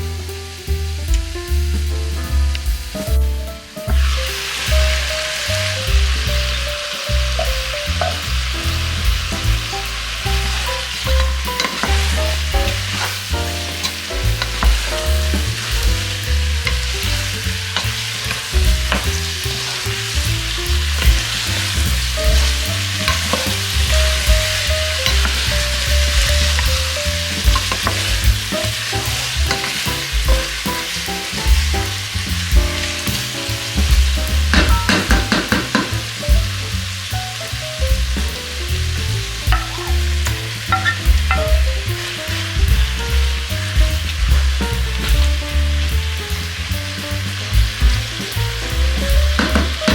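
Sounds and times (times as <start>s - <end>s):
food sizzling in a frying pan: 2.9s - 49.9s.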